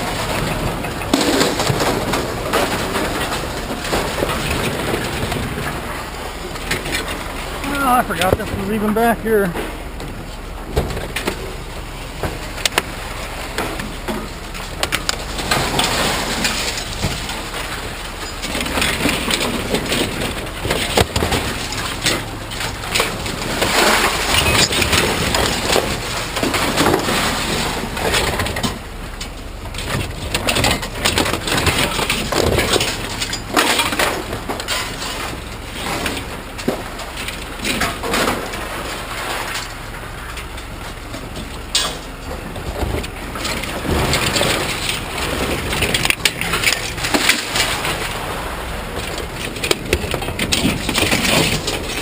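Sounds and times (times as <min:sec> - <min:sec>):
scrap clattering and scraping: 0:00.0 - 0:52.0.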